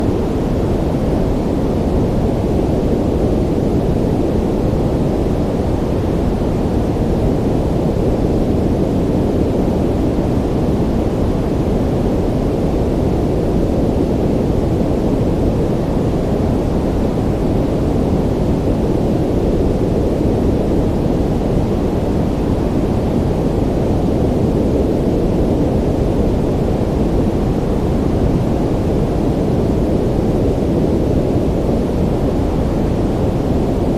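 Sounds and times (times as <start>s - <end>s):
deep rush of sea noise: 0.0s - 33.9s.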